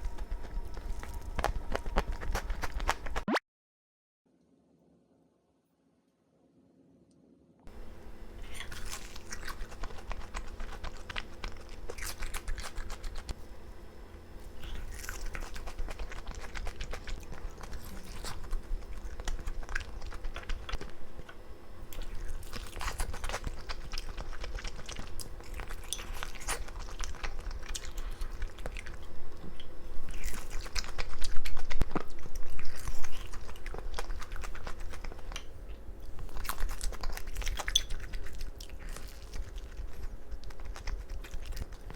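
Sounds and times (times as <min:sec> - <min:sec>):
chewing and biting fried chicken: 0:00.0 - 0:03.2, 0:08.4 - 0:13.4, 0:14.5 - 0:41.9.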